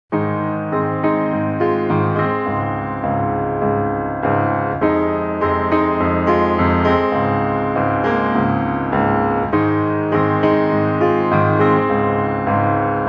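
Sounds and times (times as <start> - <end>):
piano music: 0.1 - 13.0.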